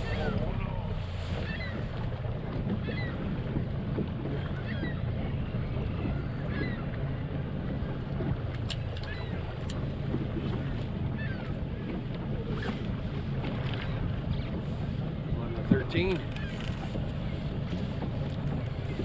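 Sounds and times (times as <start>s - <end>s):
boat motor humming: 0.0s - 19.0s
wind and water noise: 0.0s - 19.0s.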